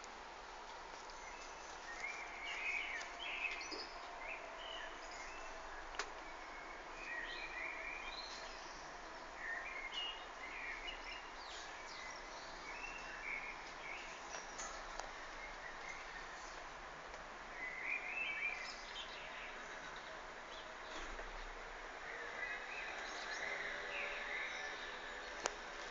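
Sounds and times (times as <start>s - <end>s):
steady background hiss: 0.0s - 25.9s.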